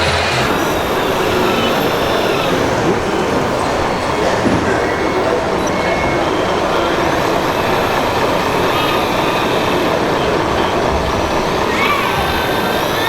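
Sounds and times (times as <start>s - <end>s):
high whine: 0.0s - 13.0s.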